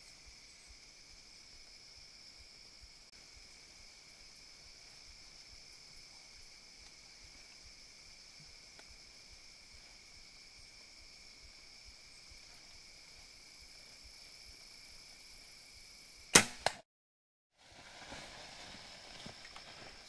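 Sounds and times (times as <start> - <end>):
field insects chorus: 0.0 - 16.5, 17.6 - 20.0.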